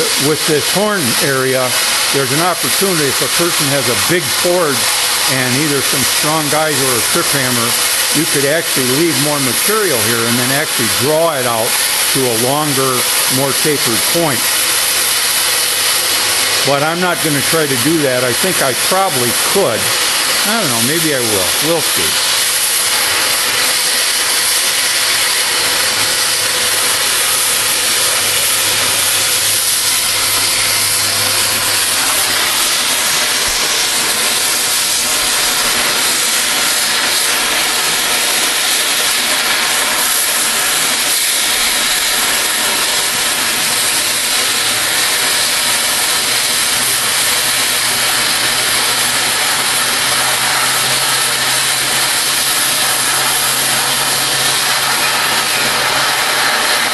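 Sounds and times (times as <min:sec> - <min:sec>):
cutting torch hissing: 0:00.0 - 0:56.9.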